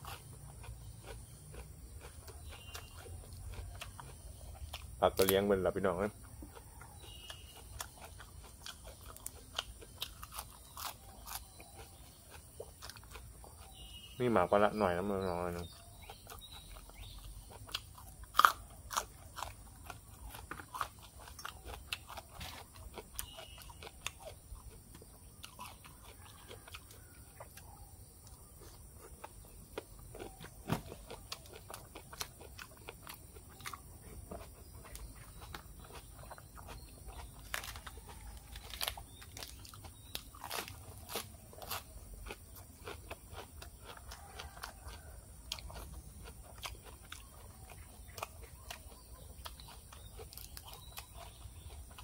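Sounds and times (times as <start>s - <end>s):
crunchy chewing: 0.0s - 52.0s.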